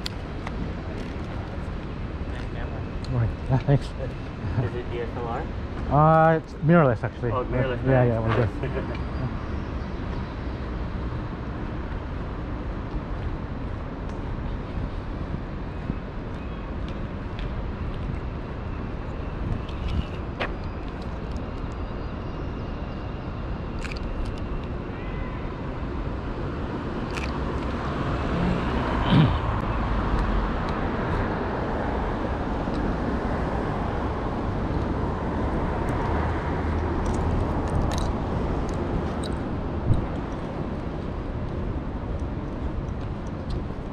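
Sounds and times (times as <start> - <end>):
car traffic hum: 0.0 - 43.9.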